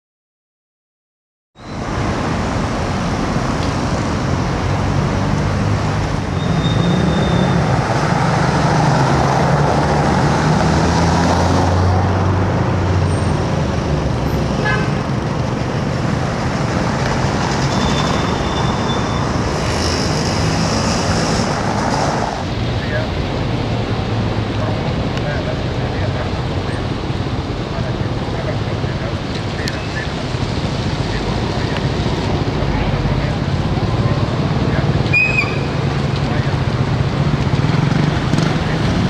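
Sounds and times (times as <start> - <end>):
heavy vehicle engine hum: 1.6 - 39.0
road traffic passing: 1.6 - 39.0.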